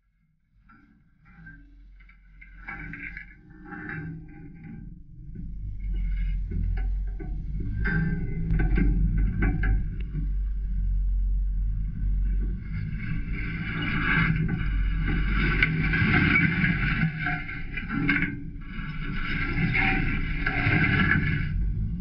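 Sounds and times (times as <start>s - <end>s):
motor running with low rumble: 0.0s - 22.0s.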